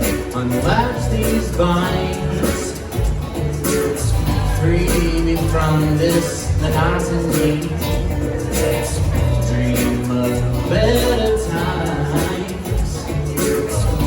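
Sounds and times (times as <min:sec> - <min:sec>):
bass guitar: 0:00.0 - 0:14.0
drums: 0:00.0 - 0:14.0
plucked strings: 0:00.0 - 0:14.0.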